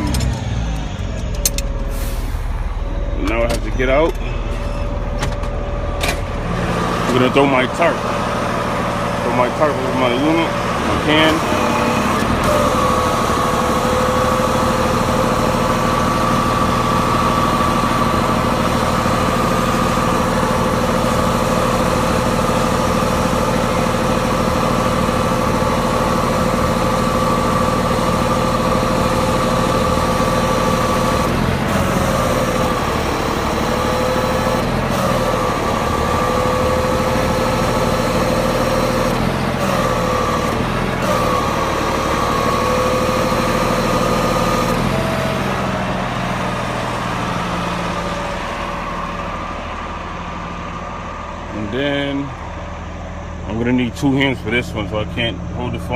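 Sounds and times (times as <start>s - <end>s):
steady whine: 0.0s - 31.3s, 35.4s - 55.9s
truck engine idling: 0.0s - 55.9s.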